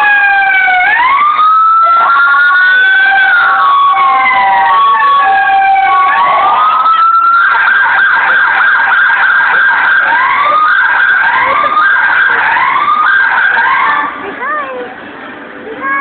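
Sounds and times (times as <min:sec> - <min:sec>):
fast pulsing siren tone: 0:00.0 - 0:14.2
police sirens wailing: 0:00.0 - 0:14.5.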